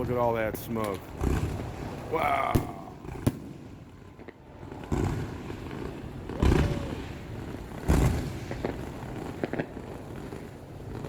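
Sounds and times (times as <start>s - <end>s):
firework shells booming: 0.0s - 11.0s.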